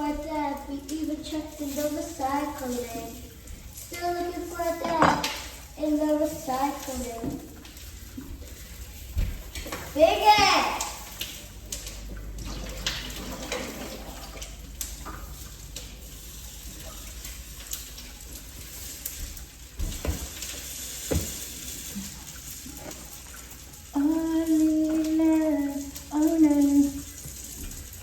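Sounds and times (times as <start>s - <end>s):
tap water running into sink: 3.4s - 5.6s, 6.5s - 28.0s.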